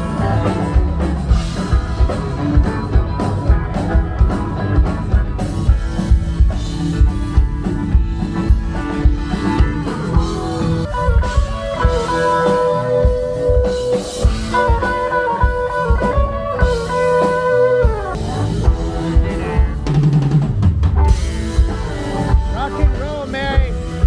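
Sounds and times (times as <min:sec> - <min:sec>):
rock music with guitar and drums: 0:00.0 - 0:24.0.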